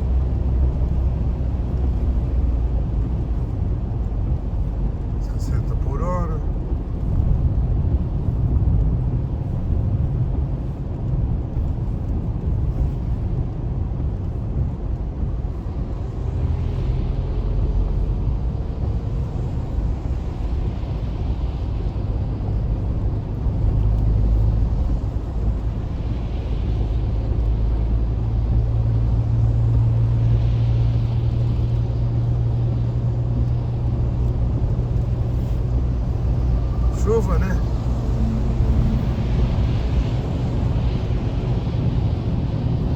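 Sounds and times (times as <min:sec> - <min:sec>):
engine and tyre rumble: 0:00.0 - 0:42.9
faint hiss of wet road: 0:00.0 - 0:42.9.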